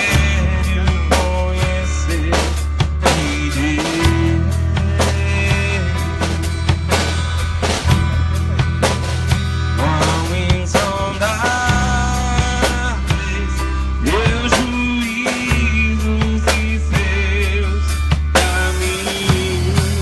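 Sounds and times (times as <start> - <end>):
bass line: 0.0 - 20.0
drum kit beat: 0.0 - 20.0
sliding lead melody: 0.0 - 20.0.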